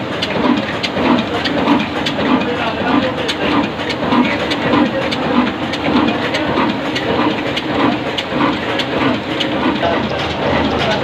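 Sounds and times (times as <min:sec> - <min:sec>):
diesel engine thumping: 0:00.0 - 0:11.0
valve gear clicking and clattering: 0:00.0 - 0:11.0.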